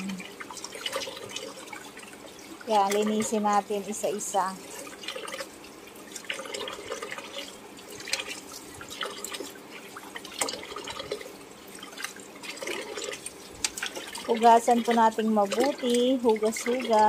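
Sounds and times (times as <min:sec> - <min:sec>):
water splashing in a basin: 0:00.0 - 0:17.0.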